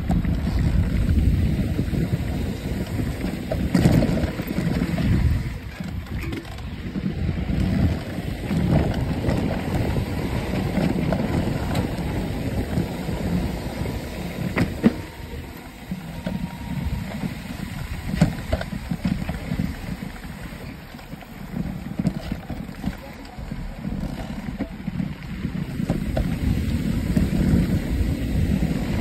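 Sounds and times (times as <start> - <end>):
bike knocks and rattles: 0.0 - 29.0
tyres rumbling on dirt: 0.0 - 29.0
wind buffeting microphone: 0.0 - 29.0.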